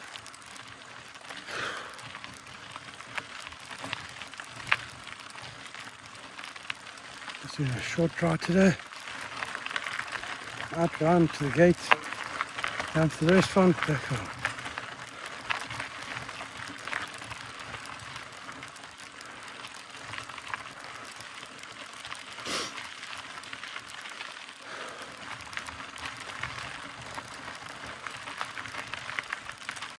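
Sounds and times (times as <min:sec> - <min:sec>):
tyres crunching on dirt trail: 0:00.0 - 0:30.0.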